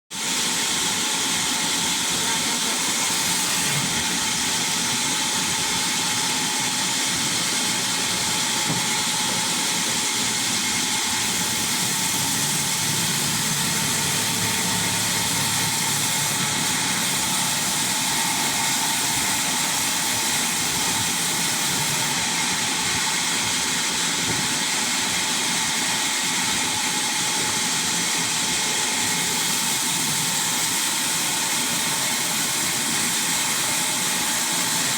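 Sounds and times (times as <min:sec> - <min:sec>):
sawmill machine hissing: 0:00.2 - 0:34.9.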